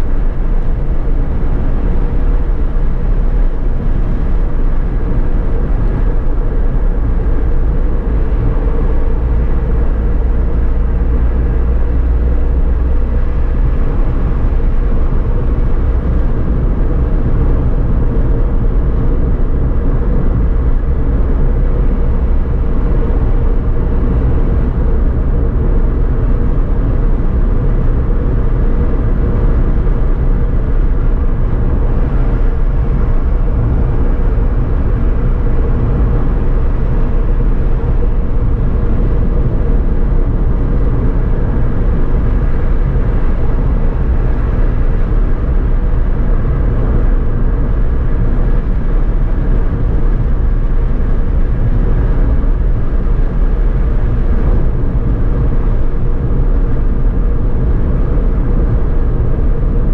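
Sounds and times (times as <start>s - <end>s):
road and engine rumble inside car: 0.0s - 59.9s.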